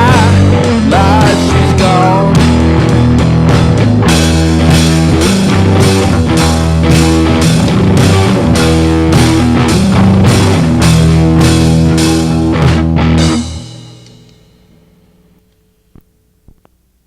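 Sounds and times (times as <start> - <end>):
drum beat with crash: 0.0 - 14.0
distorted guitar chords: 0.0 - 16.8.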